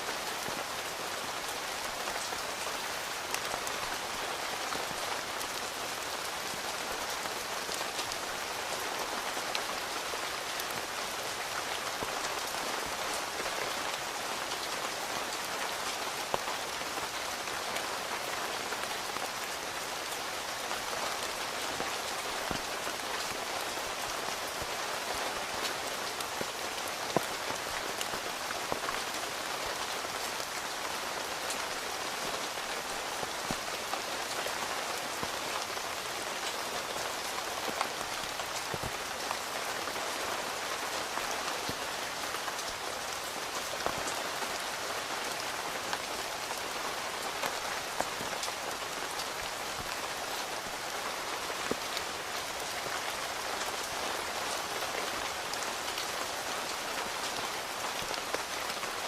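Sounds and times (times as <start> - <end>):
rain on a tent: 0.0 - 59.0.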